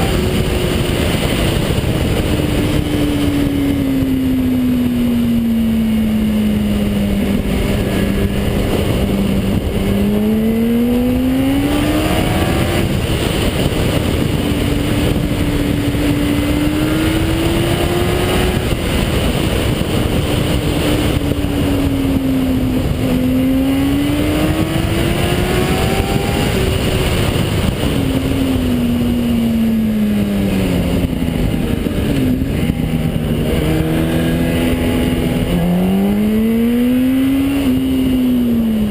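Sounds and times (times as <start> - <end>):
car engine revving: 0.0 - 38.9
road noise: 0.0 - 38.9.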